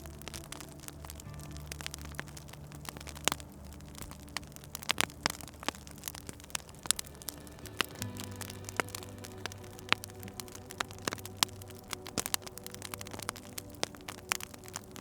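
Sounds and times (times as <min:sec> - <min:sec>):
low steady tones: 0:00.0 - 0:15.0
wood fire crackling: 0:00.0 - 0:15.0.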